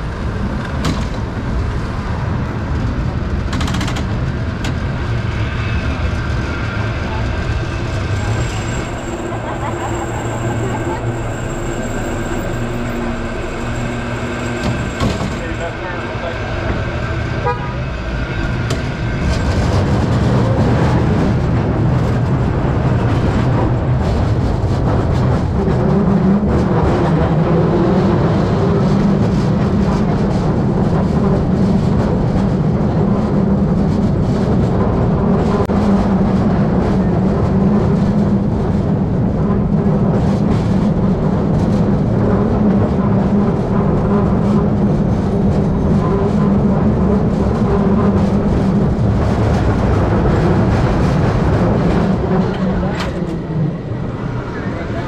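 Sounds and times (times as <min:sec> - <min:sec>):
streetcar rumbling on rails: 0:00.0 - 0:55.0.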